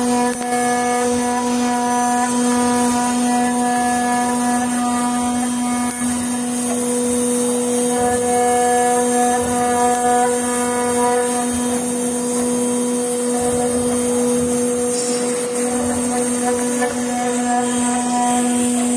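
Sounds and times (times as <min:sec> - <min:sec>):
machining equipment humming: 0:00.0 - 0:18.9.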